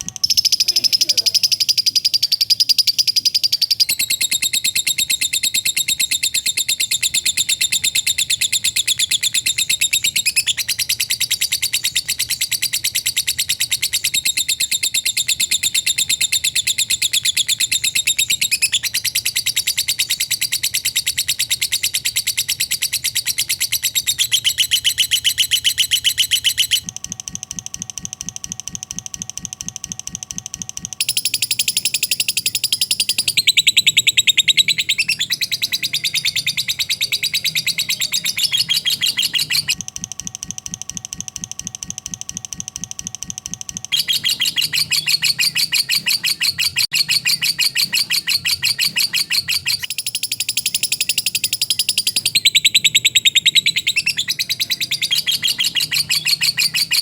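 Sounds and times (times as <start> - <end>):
lovebird chattering trill: 0.0 - 26.9, 31.0 - 39.8, 43.9 - 57.0.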